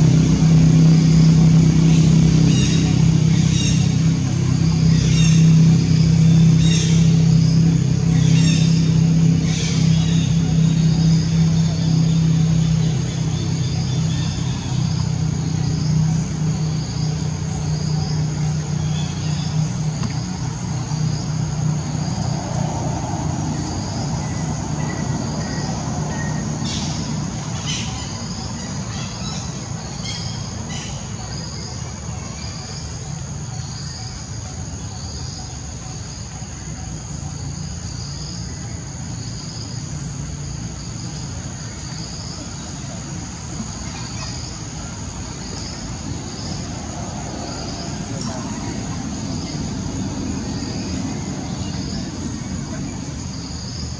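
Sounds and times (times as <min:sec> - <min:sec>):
insects droning: 0:00.0 - 0:53.9
low engine hum: 0:00.0 - 0:53.9.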